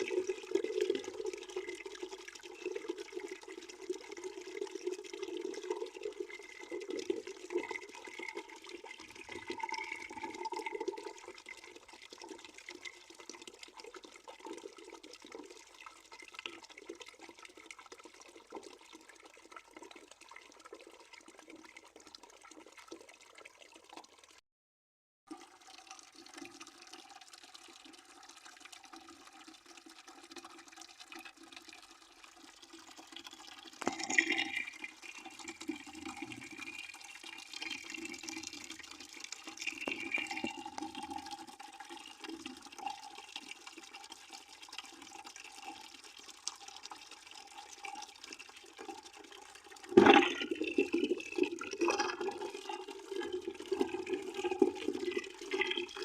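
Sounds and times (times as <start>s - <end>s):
water flowing into a bucket: 0.0s - 24.4s, 25.3s - 56.0s.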